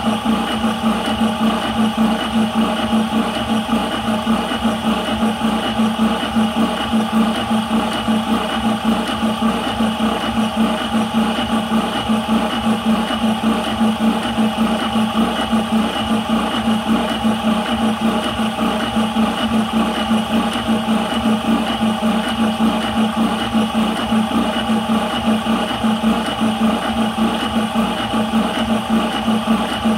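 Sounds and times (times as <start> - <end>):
air compressor pulsing drone: 0.0 - 29.9.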